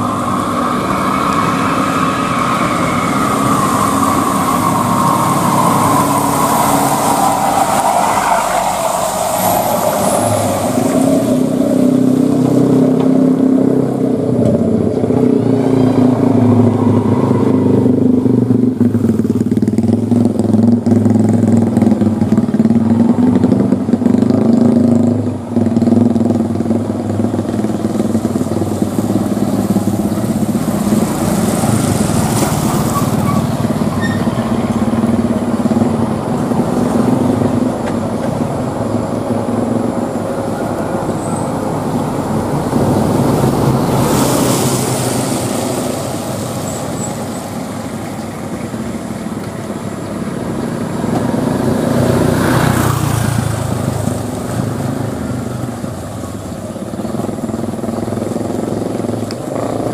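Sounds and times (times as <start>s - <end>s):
traffic engines climbing uphill: 0.0s - 59.9s
vehicles passing close by: 0.0s - 59.9s.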